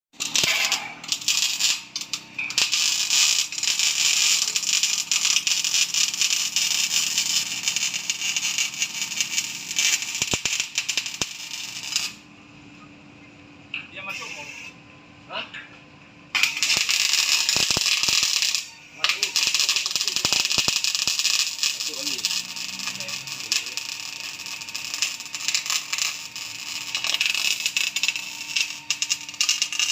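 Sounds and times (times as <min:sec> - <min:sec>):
welding arc crackling: 0:00.1 - 0:12.3, 0:14.1 - 0:14.7, 0:16.3 - 0:29.9.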